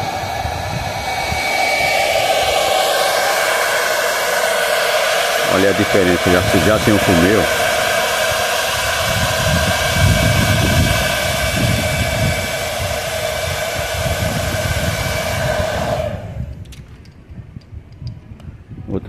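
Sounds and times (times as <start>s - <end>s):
hair dryer running: 0.0s - 16.7s.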